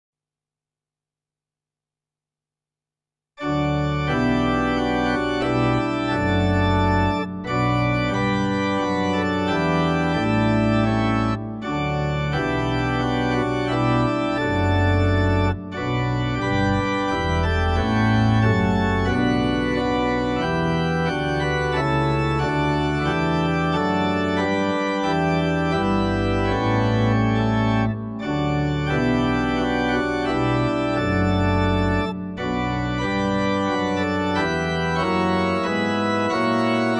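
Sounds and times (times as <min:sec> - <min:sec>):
church organ playing held chords: 0:03.4 - 0:36.9.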